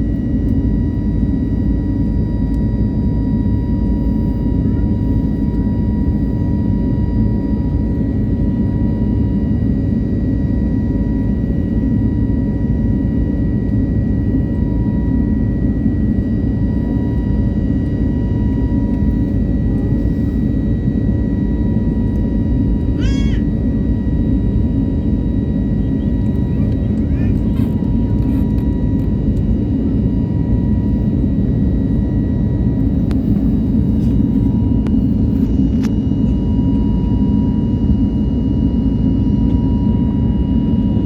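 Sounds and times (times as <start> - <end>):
jet engines rumbling and whining: 0.0 - 41.0.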